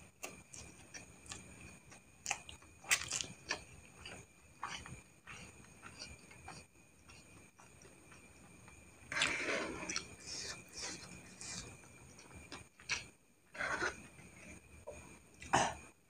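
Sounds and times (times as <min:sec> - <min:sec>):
person chewing and slurping: 0:00.2 - 0:08.3, 0:09.1 - 0:14.5.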